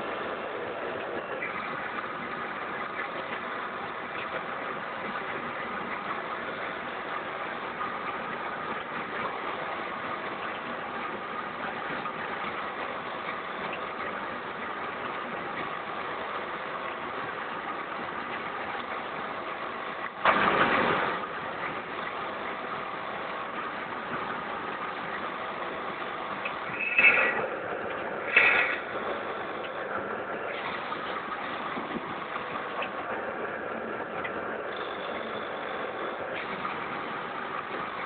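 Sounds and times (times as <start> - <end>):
packing machine running: 0.0 - 38.0.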